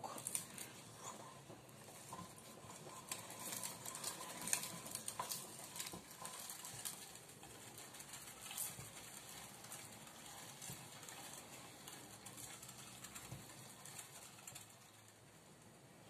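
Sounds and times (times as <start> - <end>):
meat grinder crunching nuts: 0.0 - 15.4.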